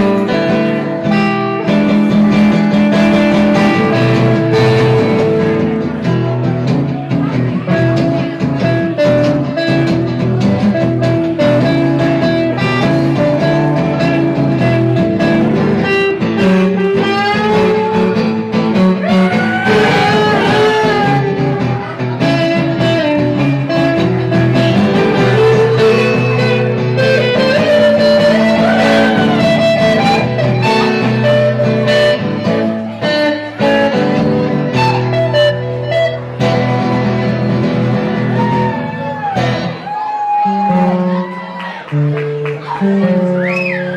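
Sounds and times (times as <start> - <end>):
guitar lead line bending: 0.0 - 43.9
live band playing instrumental: 0.0 - 43.9.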